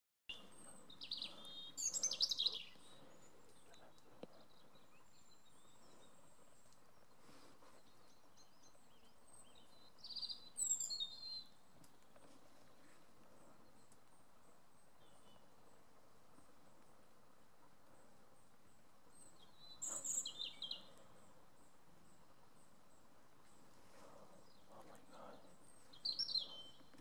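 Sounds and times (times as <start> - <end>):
faint outdoor background noise: 0.3 - 27.0
songbird chirping: 0.3 - 27.0.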